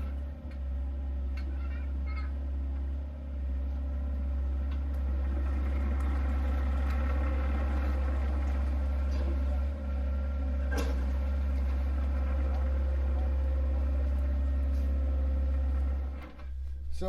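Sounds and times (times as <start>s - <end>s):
vehicle engine running: 0.0s - 16.9s.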